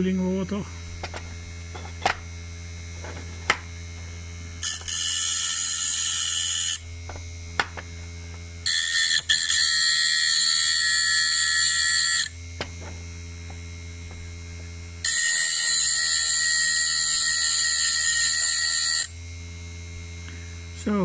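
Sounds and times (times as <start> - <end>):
grinding machine humming: 0.0 - 21.0
high-pitched grinding hiss: 0.0 - 21.0.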